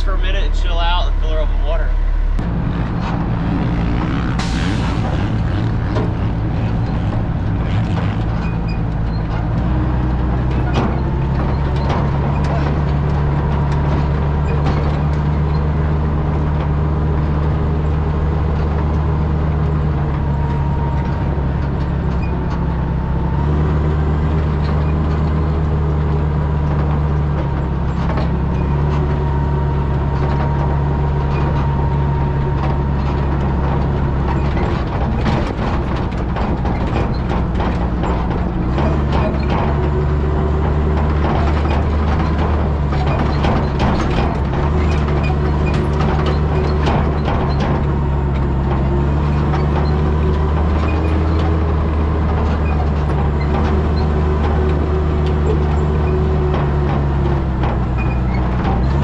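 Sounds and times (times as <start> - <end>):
fire truck engine running: 0.0 - 59.0
clattering knocks and rattles: 2.4 - 59.0.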